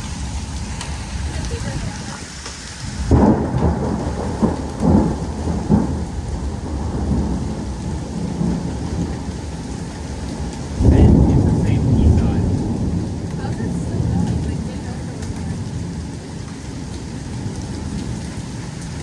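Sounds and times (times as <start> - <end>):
steady rain: 0.0 - 19.0
thunder rumbling: 0.0 - 19.0.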